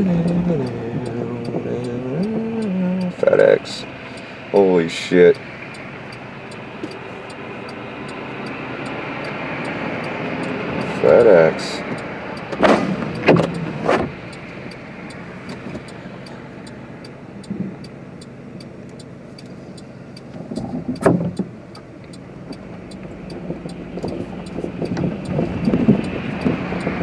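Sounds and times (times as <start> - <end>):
car engine and road hum: 0.0 - 27.0
road rumble: 0.0 - 27.0.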